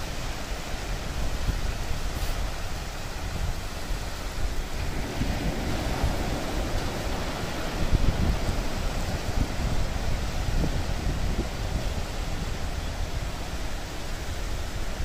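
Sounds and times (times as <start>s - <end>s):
surf breaking on beach: 0.0s - 15.0s
wind buffeting microphone: 1.0s - 15.0s.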